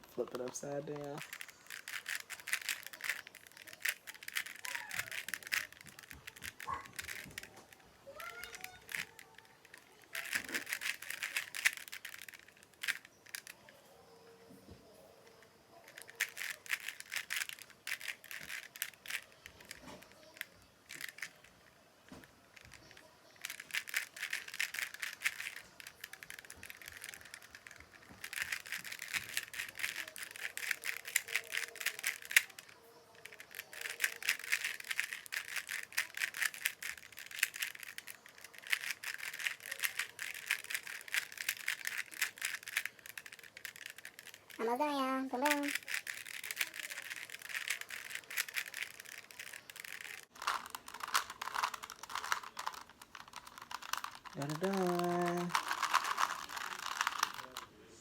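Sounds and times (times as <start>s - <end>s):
puzzle cube clicking: 0.0s - 13.6s, 15.8s - 21.5s, 22.1s - 57.7s.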